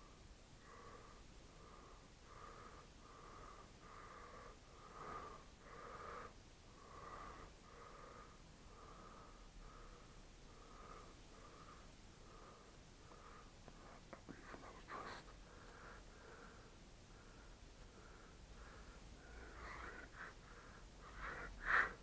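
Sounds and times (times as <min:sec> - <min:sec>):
wheezy breathing: 0:00.0 - 0:22.0.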